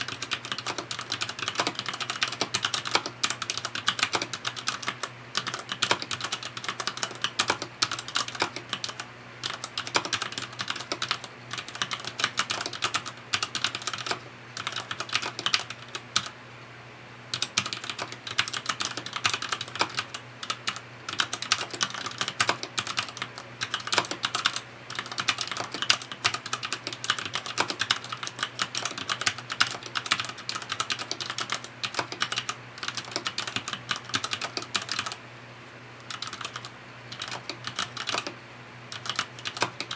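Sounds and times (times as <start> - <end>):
mechanical keyboard typing: 0.0 - 16.3, 17.4 - 35.2, 36.1 - 39.9.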